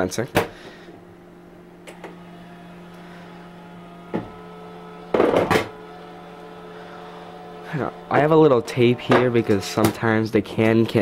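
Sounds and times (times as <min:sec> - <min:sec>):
vending machine mechanism humming: 0:00.0 - 0:11.0.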